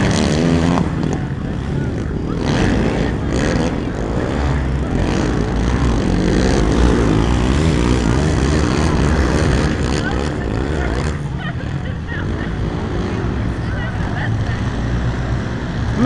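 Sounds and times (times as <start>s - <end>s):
quad engines revving: 0.0s - 16.0s.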